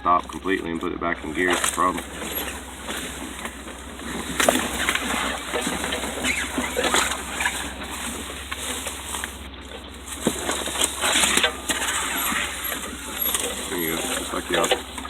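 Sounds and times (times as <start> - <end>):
tyres crunching over rocks: 0.0 - 15.0
vehicle scraping on rock: 0.0 - 15.0.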